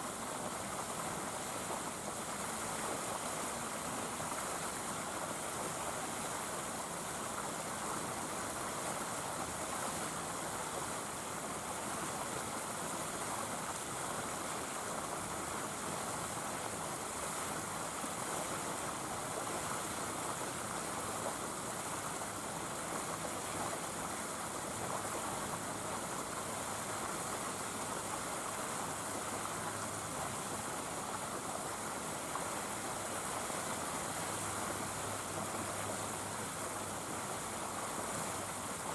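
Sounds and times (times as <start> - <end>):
steady rushing hiss: 0.0 - 38.9.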